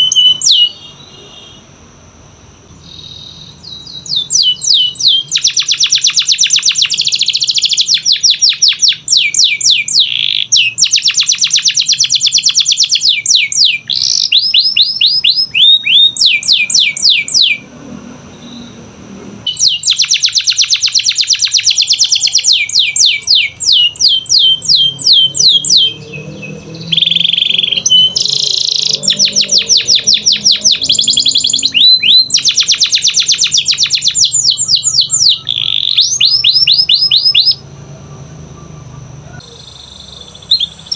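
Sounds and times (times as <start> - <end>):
canary singing trills: 0.0 - 1.5, 2.7 - 17.7, 18.3 - 18.9, 19.5 - 40.9.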